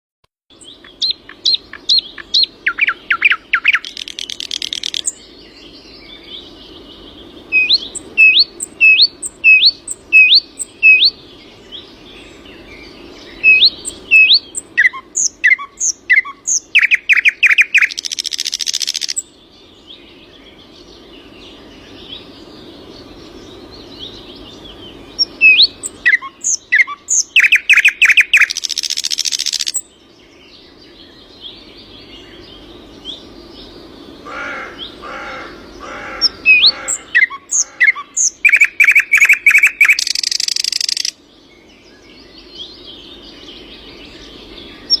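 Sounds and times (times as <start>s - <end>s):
songbird singing: 0.5s - 45.0s.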